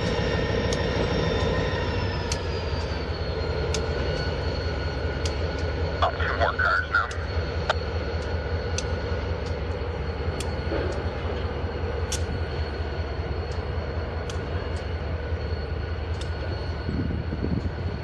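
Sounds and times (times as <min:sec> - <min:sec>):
train wheel clicks: 0:00.0 - 0:05.8, 0:07.1 - 0:17.9
locomotive engine droning: 0:00.0 - 0:18.0.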